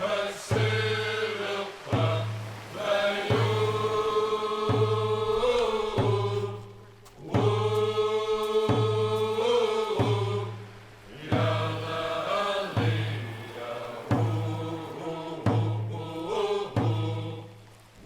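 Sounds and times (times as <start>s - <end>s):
drum struck steadily: 0.0s - 17.5s
group chanting long notes: 0.0s - 17.6s.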